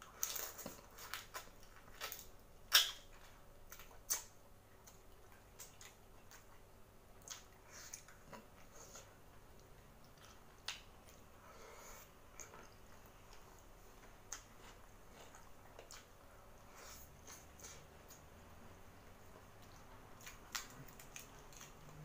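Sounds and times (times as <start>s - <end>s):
sucking and chewing: 0.0s - 22.0s.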